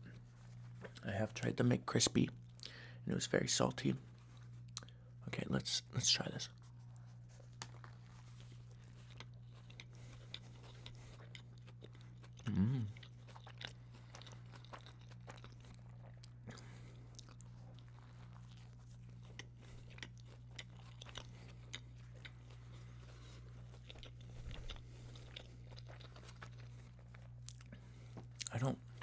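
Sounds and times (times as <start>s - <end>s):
steady low hum: 0.0s - 29.0s
chewing crunches: 4.2s - 5.0s, 6.5s - 29.0s.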